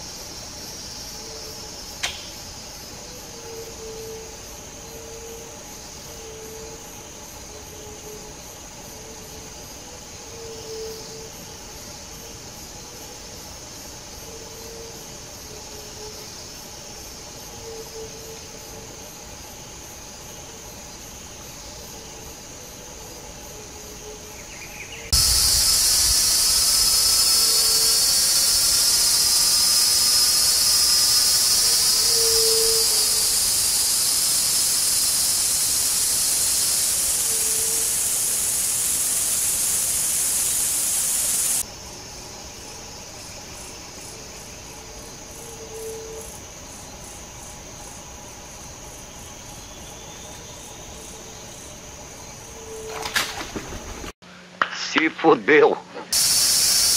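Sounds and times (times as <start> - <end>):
insects chirring: 0.0 - 54.2, 54.8 - 56.9
loud hissing insect drone: 0.0 - 54.2, 56.1 - 56.9.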